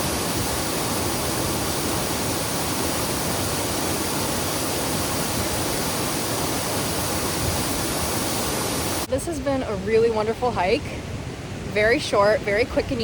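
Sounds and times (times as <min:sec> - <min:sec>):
waterfall roaring: 0:00.0 - 0:10.6.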